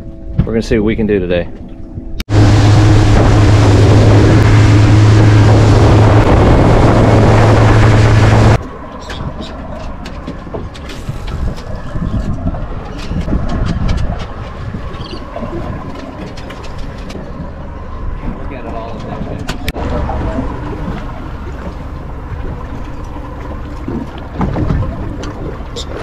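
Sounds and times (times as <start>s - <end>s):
boat engine running: 0.0s - 26.0s
wind and water noise: 0.0s - 26.0s
low rumble: 1.5s - 26.0s.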